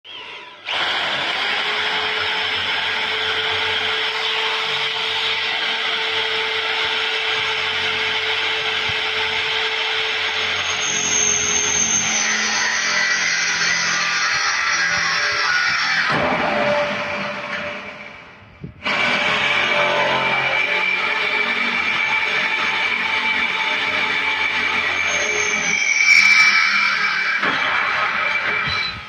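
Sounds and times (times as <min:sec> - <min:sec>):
electric drill boring into steel: 0:00.1 - 0:29.0.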